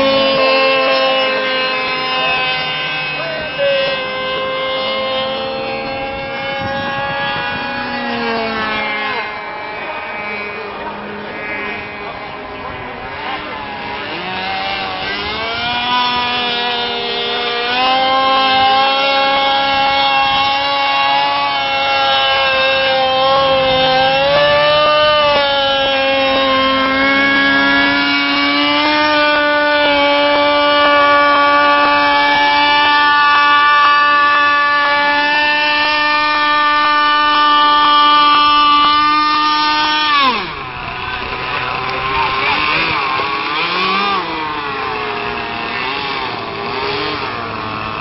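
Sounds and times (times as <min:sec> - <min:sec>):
model aircraft engine and propeller: 0:00.0 - 0:48.0.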